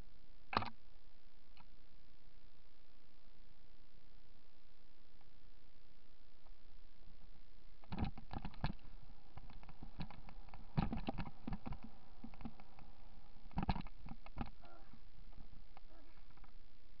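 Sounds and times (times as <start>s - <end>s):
low hiss: 0.0s - 17.0s.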